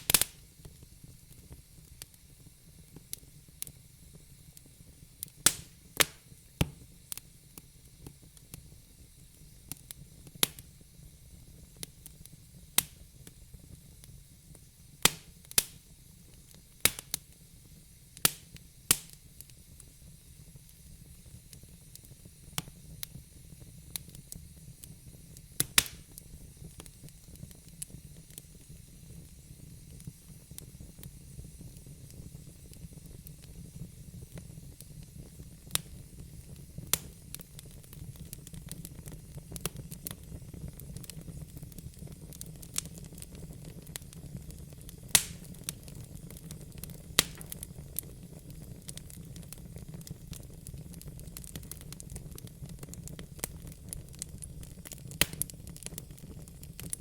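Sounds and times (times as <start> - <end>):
burning logs crackling and popping: 0.0 - 57.0
fire flames rumbling and hissing: 0.0 - 57.0.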